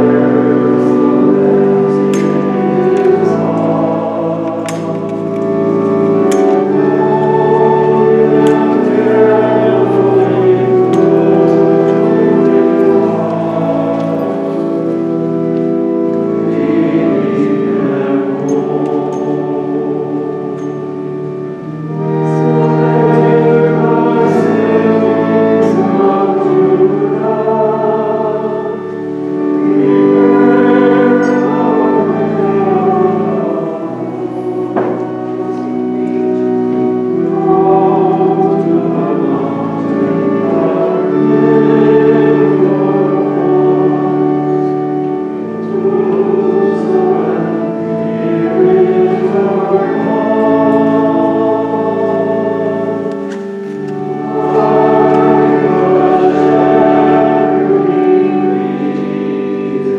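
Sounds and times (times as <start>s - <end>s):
choir singing a hymn: 0.0s - 59.9s
instrumental accompaniment: 0.0s - 59.9s.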